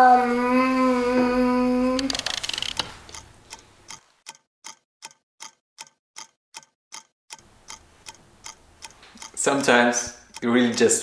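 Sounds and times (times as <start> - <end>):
clock ticking: 2.0 - 11.0.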